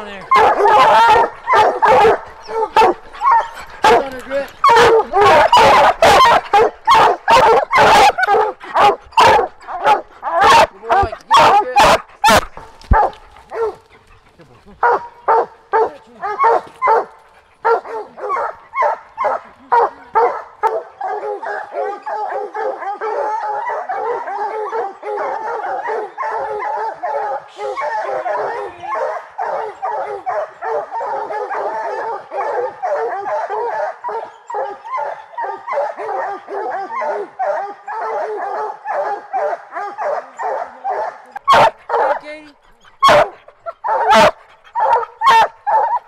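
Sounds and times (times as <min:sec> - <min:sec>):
hounds baying: 0:00.0 - 0:46.0.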